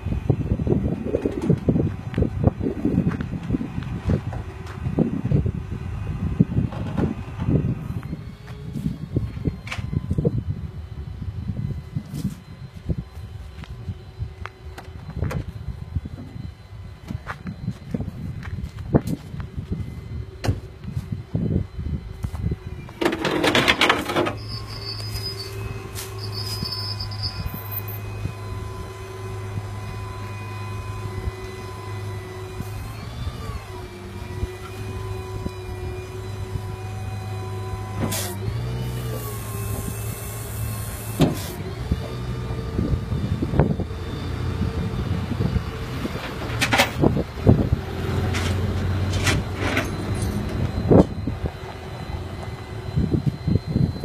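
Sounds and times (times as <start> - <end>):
truck engine humming: 0.0 - 54.0.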